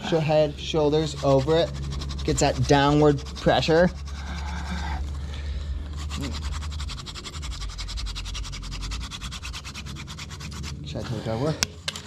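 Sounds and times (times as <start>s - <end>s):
wooden spindle scratching fireboard: 0.0s - 12.0s.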